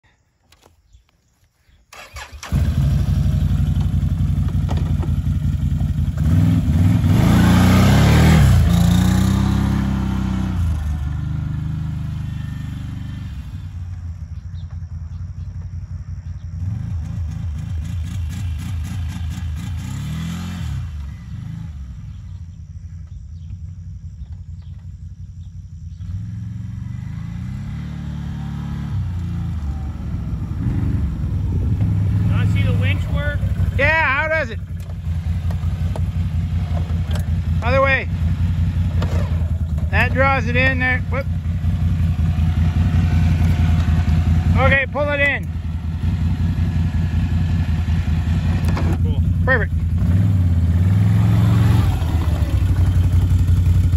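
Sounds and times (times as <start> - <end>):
atv engine starting and revving: 1.9 - 15.6, 16.2 - 22.5, 25.4 - 53.9.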